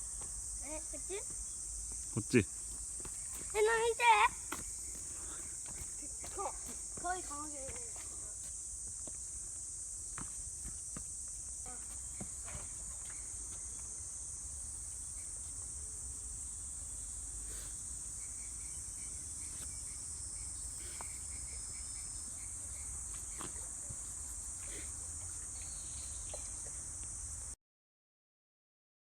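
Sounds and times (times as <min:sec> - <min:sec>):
shrill insect chorus: 0:00.0 - 0:27.6.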